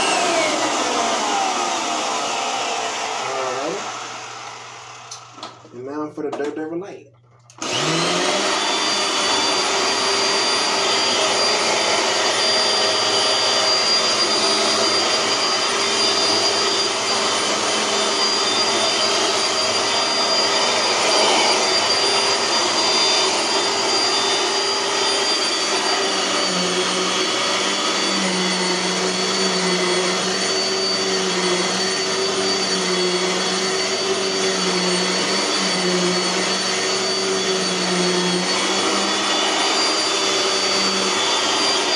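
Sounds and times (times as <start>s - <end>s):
vacuum cleaner running: 0.0s - 6.0s, 7.4s - 41.9s.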